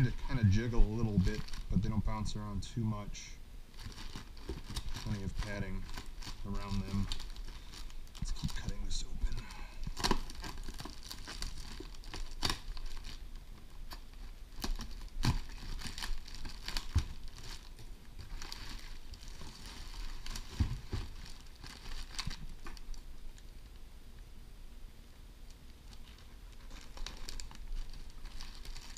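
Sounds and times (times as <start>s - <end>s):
plastic packaging crinkling: 0.0s - 2.4s, 3.7s - 23.8s, 25.6s - 28.9s.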